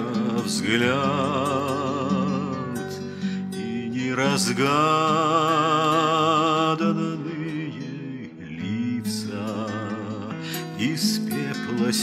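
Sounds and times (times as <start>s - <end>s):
acoustic guitar: 0.0s - 12.0s
person singing with vibrato: 0.0s - 12.0s.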